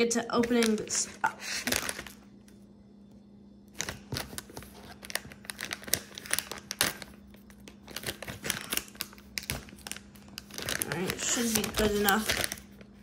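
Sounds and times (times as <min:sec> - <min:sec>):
plastic bag crinkling: 0:00.3 - 0:02.4, 0:03.7 - 0:13.0.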